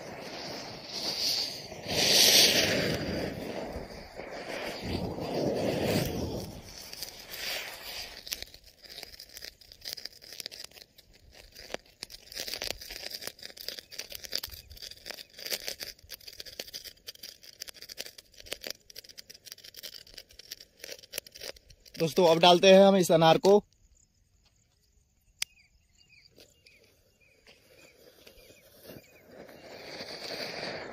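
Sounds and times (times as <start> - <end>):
spinner firecracker hissing: 0.0 - 22.8, 27.6 - 30.9
smouldering remains crackling: 0.0 - 24.0, 26.3 - 30.9.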